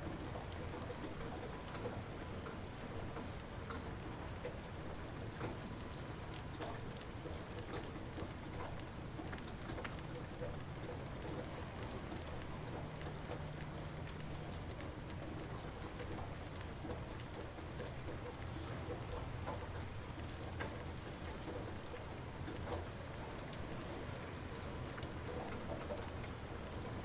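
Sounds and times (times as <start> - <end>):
light rain falling: 0.0 - 27.0
raindrops tapping: 3.2 - 27.0.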